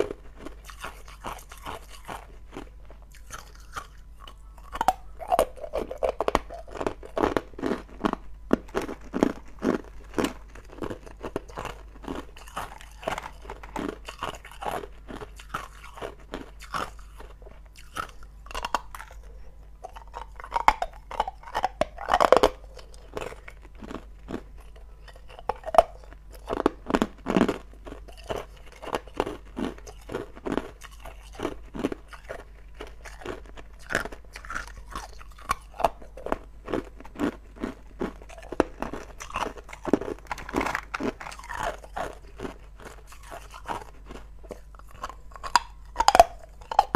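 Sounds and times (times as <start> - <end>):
person crunching ice cubes: 0.0 - 46.9.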